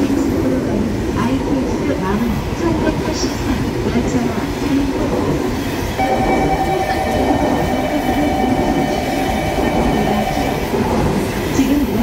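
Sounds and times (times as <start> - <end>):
high train whine: 0.0 - 12.0
train wheels rumbling on rail: 0.0 - 12.0.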